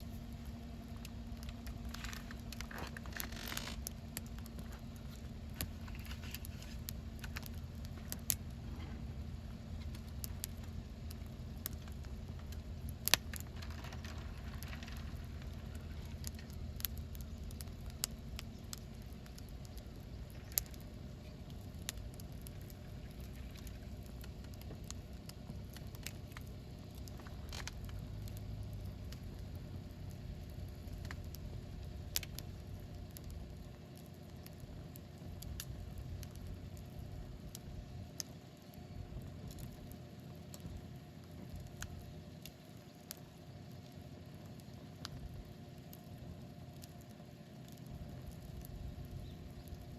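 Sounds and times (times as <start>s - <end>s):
campfire crackling: 0.0s - 49.9s
fire popping: 0.0s - 49.9s
low steady rumble: 0.0s - 49.9s.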